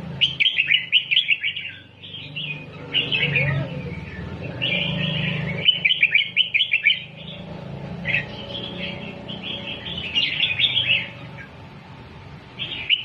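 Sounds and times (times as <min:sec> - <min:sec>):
bird singing chirpy notes: 0:00.0 - 0:11.6, 0:12.5 - 0:13.0.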